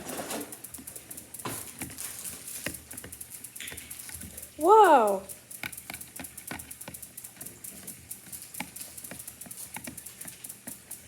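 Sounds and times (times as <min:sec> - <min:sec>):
plastic timer clicks and taps: 0:00.4 - 0:11.0.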